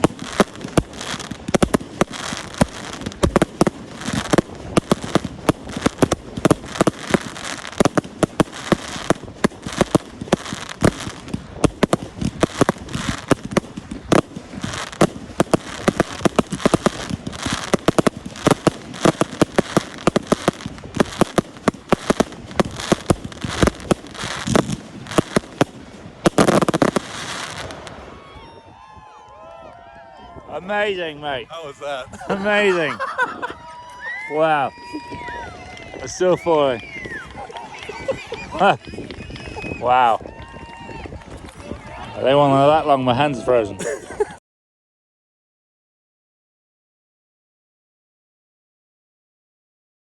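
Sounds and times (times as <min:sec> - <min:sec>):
fireworks bangs and crackling: 0:00.0 - 0:44.2.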